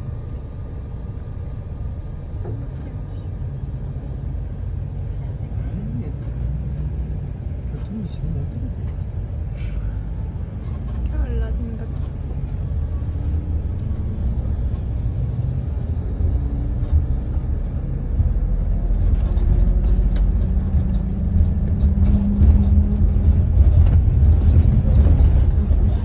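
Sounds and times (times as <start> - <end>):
city traffic: 0.0 - 26.0
vehicle rumble from inside: 0.0 - 26.0.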